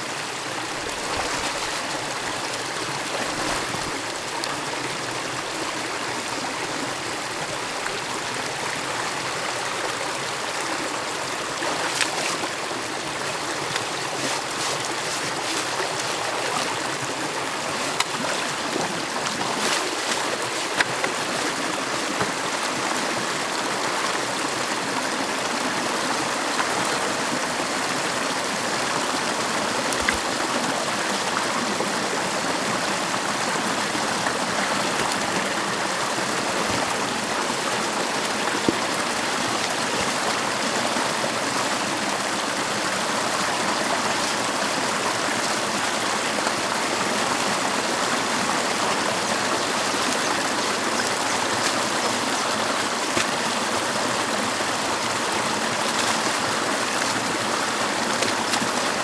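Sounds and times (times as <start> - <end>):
stream water gurgling: 0.0 - 59.0.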